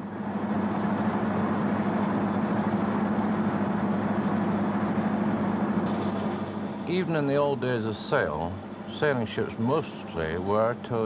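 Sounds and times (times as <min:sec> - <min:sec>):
ship engine droning: 0:00.0 - 0:11.0.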